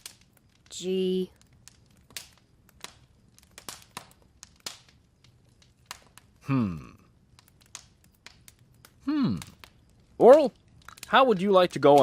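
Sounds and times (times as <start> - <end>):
light crinkling and clicking: 0.0 - 12.0.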